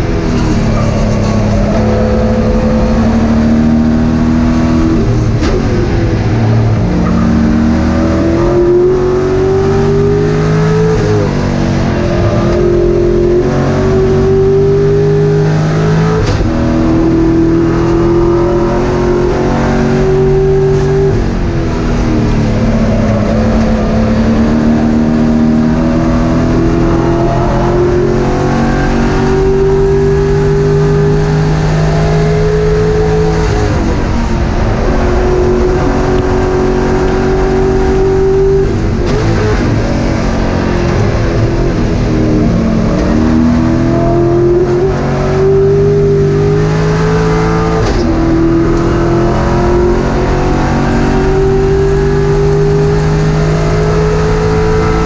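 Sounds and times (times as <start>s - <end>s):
race car engine at hard throttle: 0.0s - 55.0s.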